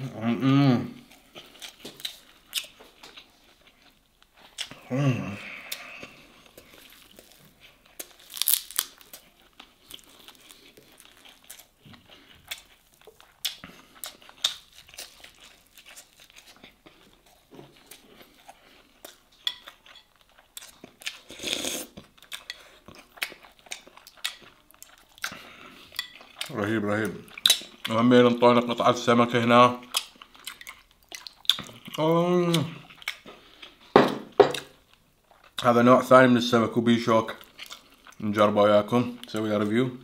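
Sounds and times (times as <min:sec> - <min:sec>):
chewing and mouth noises: 0:01.0 - 0:28.0, 0:29.8 - 0:33.9, 0:37.3 - 0:38.3.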